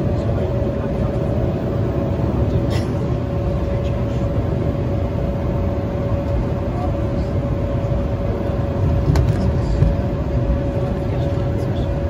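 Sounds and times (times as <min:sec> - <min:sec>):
airliner cabin rumble: 0:00.0 - 0:12.0
jet engine whine: 0:00.0 - 0:12.0.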